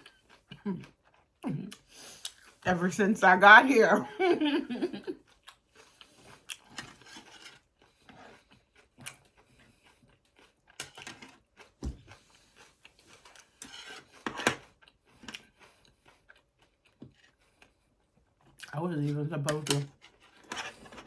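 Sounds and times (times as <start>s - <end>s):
chewing and crunching: 0.0s - 2.7s, 5.0s - 21.0s.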